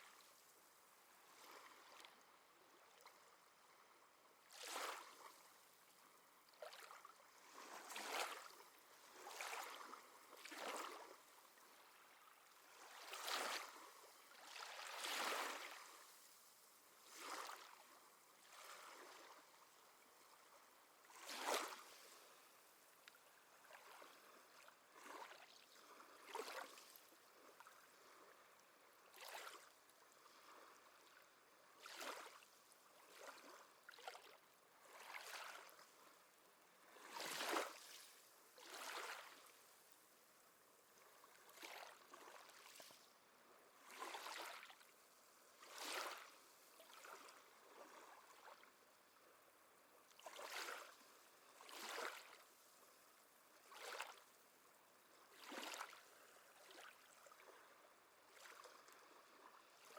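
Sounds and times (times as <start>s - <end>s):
small waves lapping at shore: 0.0s - 59.9s.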